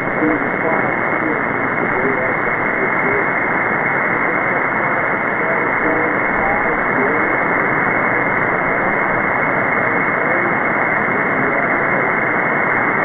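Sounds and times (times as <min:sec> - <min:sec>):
faint wavering weak signals: 0:00.0 - 0:13.0
shortwave radio static: 0:00.0 - 0:13.0.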